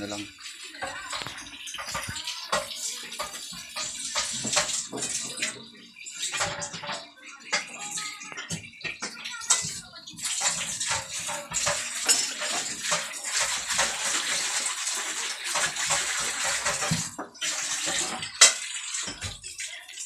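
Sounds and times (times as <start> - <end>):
tap water splashing into sink: 0.0 - 20.0.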